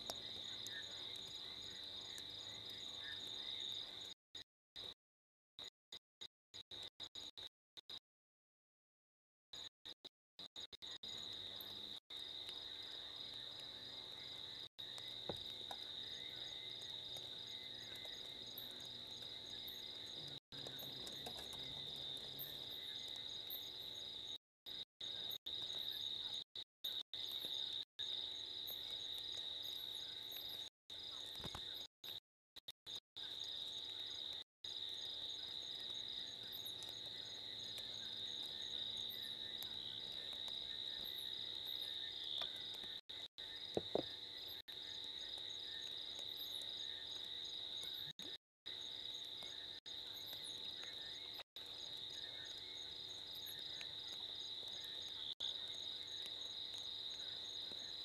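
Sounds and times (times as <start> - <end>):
night insects trilling: 0.0 - 4.2, 10.4 - 32.2, 32.9 - 58.0.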